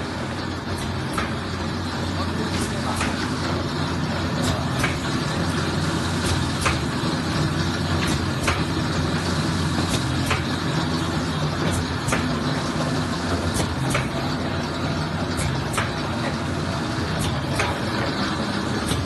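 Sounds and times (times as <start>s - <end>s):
laminating machine humming: 0.0s - 19.0s.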